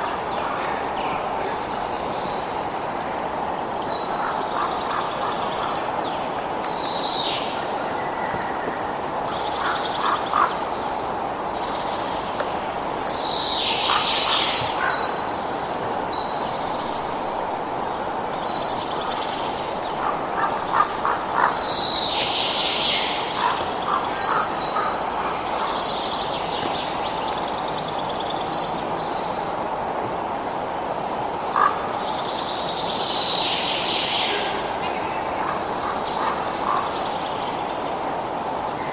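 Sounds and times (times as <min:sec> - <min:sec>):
birds calling: 0:03.6 - 0:08.6, 0:09.3 - 0:29.4, 0:31.3 - 0:38.9.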